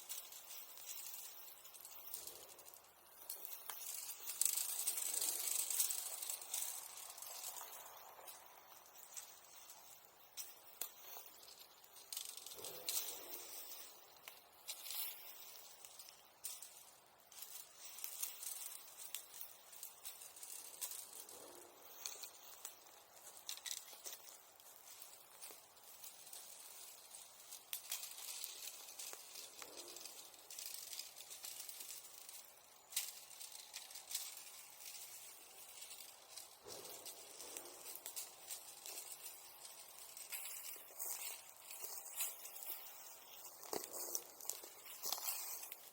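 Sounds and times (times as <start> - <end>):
bonfire embers crackling: 0.0 - 45.9.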